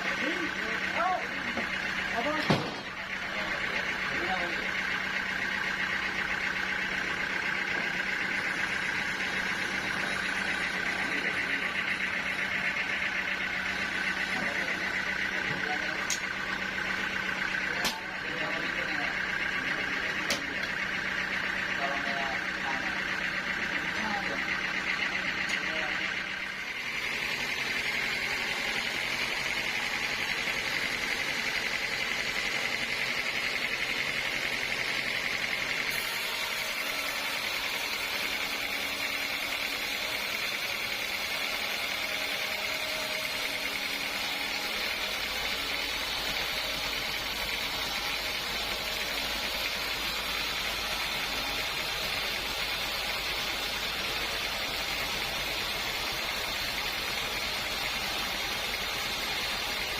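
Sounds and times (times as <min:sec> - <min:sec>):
sawmill machinery whining: 0:00.0 - 0:59.9.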